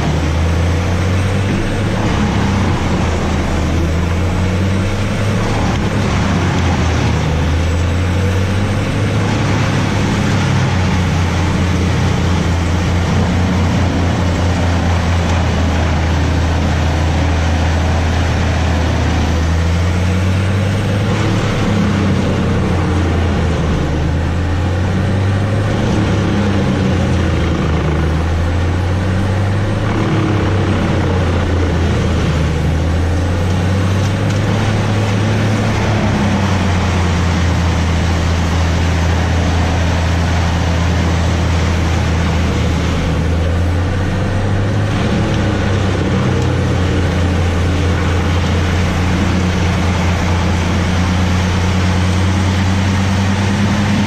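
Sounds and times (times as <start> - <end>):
wood chipper diesel engine: 0.0 - 54.0.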